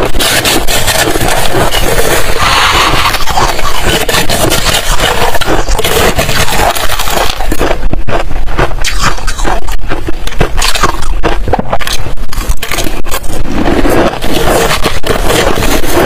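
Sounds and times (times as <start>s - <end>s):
ice crunching being chewed: 0.2s - 16.0s.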